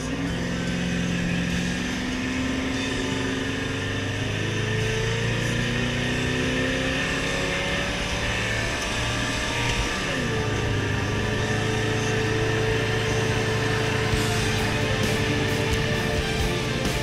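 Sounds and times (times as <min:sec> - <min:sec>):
truck engine accelerating: 0:00.0 - 0:17.0
tyre and road noise: 0:00.0 - 0:17.0.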